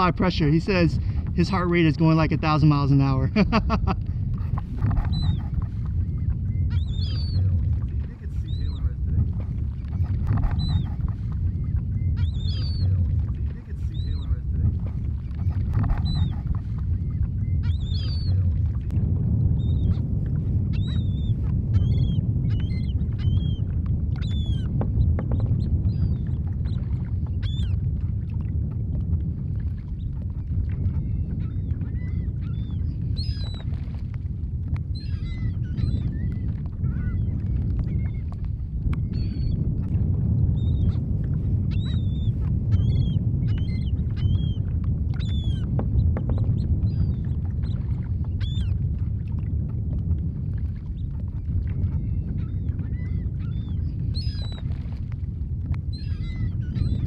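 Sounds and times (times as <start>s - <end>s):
gulls calling: 0.0s - 18.8s, 19.6s - 27.8s, 30.0s - 33.7s, 34.9s - 38.4s, 39.0s - 39.7s, 41.7s - 48.8s, 51.4s - 54.6s, 55.9s - 57.0s
low rumble of wind: 0.0s - 57.0s.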